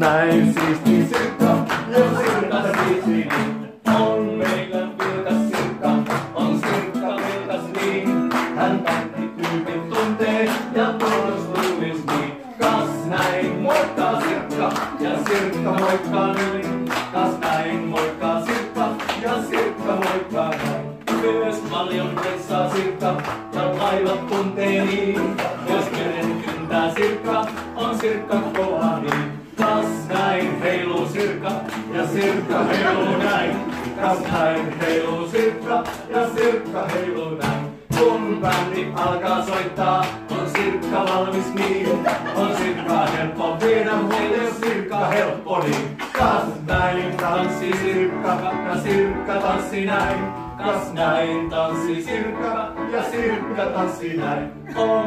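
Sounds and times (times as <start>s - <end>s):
acoustic guitar: 0.0s - 55.0s
voices singing along: 0.0s - 55.0s.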